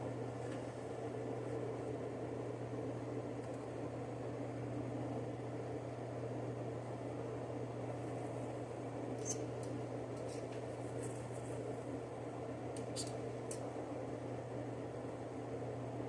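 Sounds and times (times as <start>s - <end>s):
extractor fan humming: 0.0s - 16.0s.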